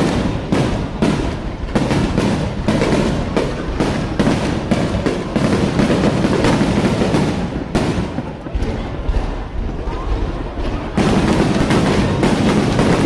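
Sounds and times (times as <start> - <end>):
continuous rumble: 0.0 - 13.0
fireworks booming and crackling: 0.0 - 13.0.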